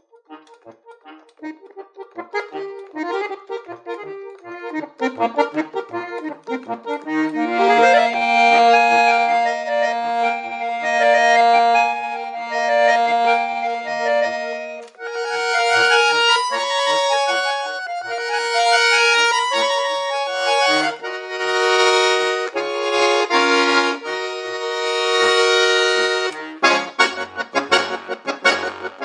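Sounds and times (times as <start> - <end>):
solo accordion playing: 0.0 - 29.0.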